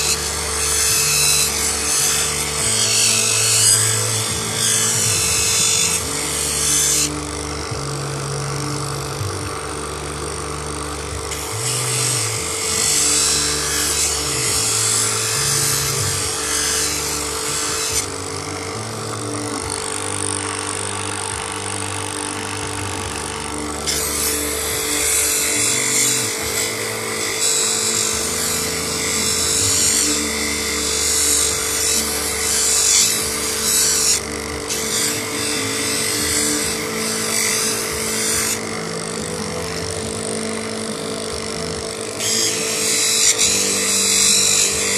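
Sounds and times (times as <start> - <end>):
grinder motor humming: 0.0 - 44.9.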